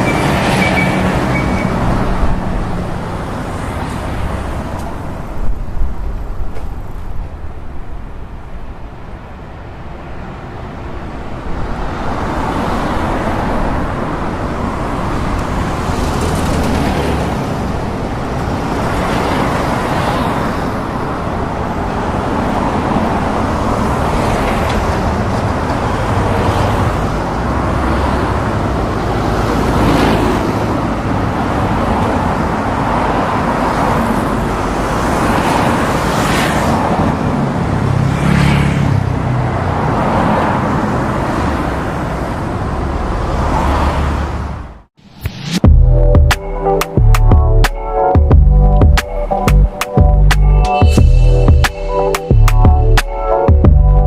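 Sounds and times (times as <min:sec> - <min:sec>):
road traffic rushing: 0:00.0 - 0:54.0.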